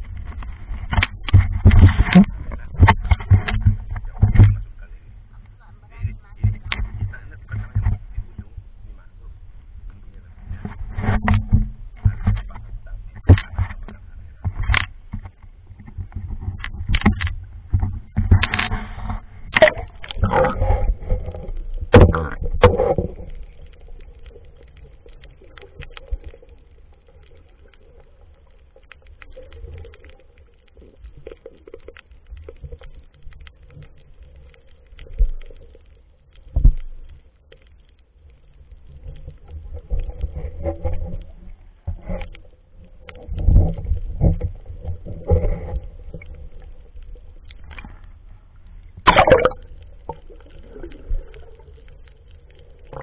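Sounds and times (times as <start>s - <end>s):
muffled underwater rumble: 0.0s - 53.0s
underwater knocks and swishes: 0.0s - 53.0s.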